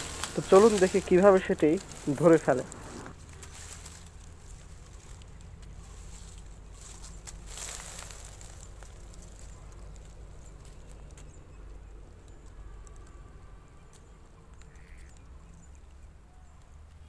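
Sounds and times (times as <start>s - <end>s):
dry plant stalks rustling: 0.0s - 17.0s
low steady rumble: 0.0s - 17.0s.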